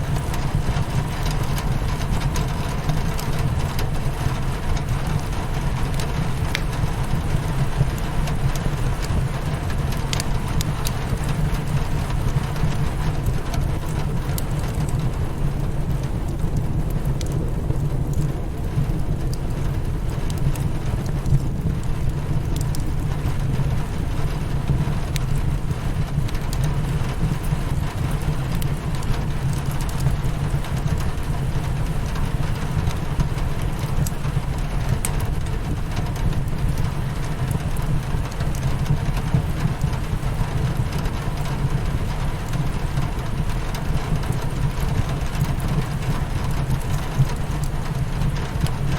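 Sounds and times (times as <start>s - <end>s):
rain beating on a window: 0.0s - 48.9s
wood fire crackling: 0.0s - 48.9s.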